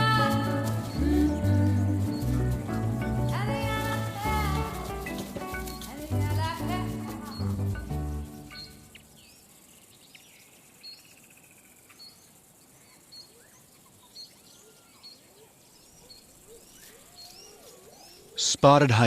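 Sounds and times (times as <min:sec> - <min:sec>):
birds chirping and whistling: 0:00.0 - 0:11.3, 0:11.9 - 0:18.5.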